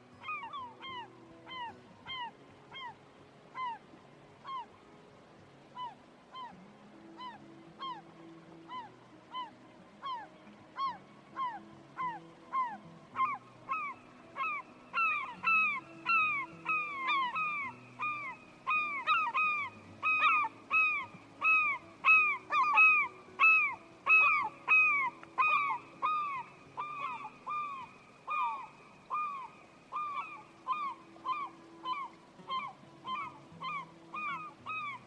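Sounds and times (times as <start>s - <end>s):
bird calling: 0.0s - 4.8s, 5.7s - 6.6s, 7.2s - 35.0s.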